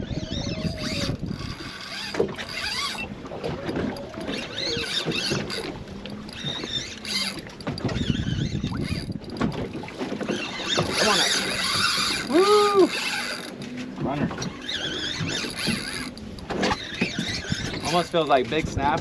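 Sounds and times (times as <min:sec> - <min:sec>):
wind on microphone: 0:00.0 - 0:13.0, 0:14.0 - 0:19.0
fishing reel gears whirring: 0:00.0 - 0:18.8
boat noise: 0:00.0 - 0:19.0.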